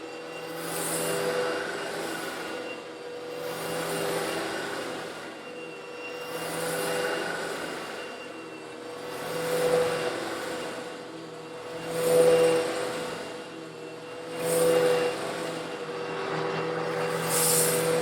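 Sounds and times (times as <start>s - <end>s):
vacuum cleaner sucking up stones: 0.1s - 18.0s.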